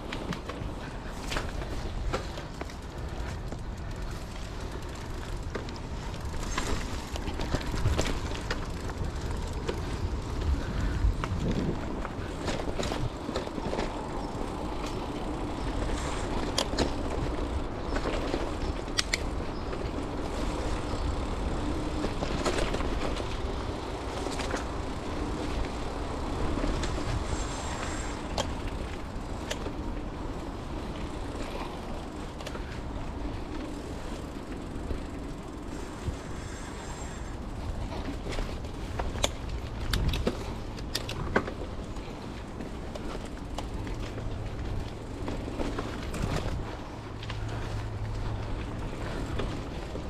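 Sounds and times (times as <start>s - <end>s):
bike rattling over bumps: 0.0s - 50.0s
bike tyres rolling on dirt: 0.0s - 50.0s.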